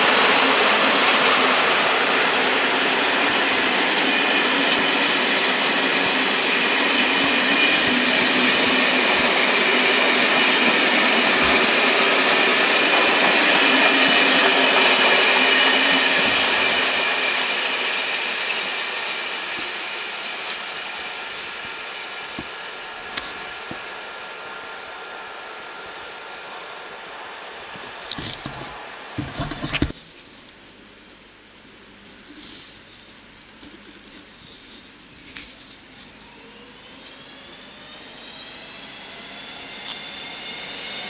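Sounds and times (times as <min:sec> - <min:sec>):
train wheels rolling on rails: 0:00.0 - 0:30.0, 0:32.2 - 0:41.0.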